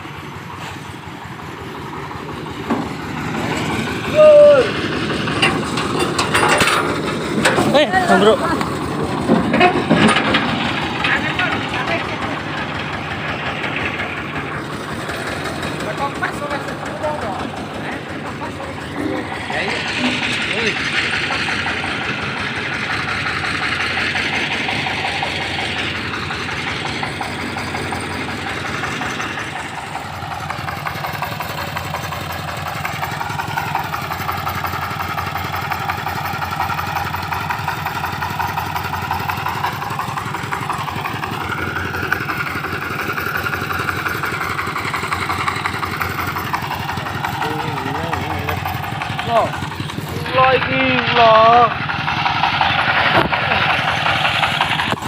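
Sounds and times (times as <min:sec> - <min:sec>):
corn sheller engine chugging: 0:00.0 - 0:55.0.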